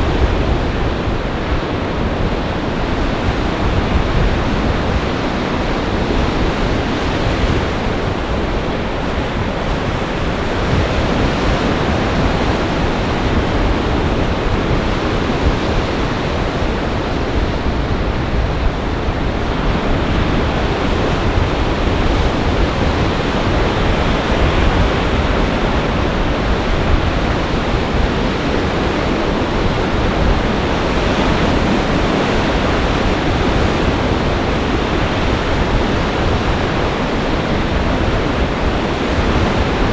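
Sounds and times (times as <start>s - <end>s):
gale-force wind: 0.0s - 39.9s
storm surf breaking: 0.0s - 39.9s.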